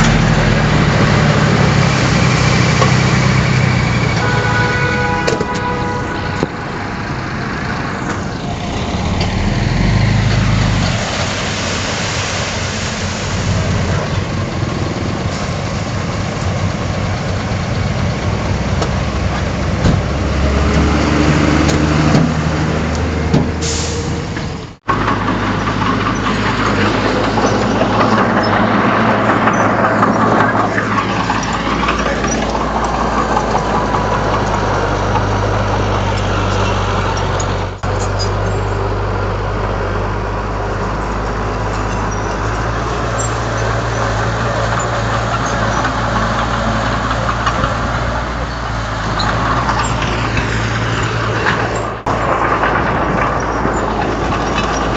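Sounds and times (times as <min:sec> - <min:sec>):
bulldozer engine running: 0:00.0 - 0:54.9.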